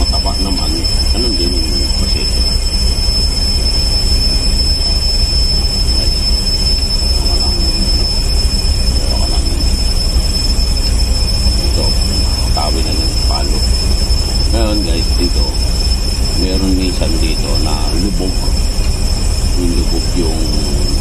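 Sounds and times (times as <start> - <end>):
high-pitched whine: 0.0 - 21.0
machinery drone: 0.0 - 21.0.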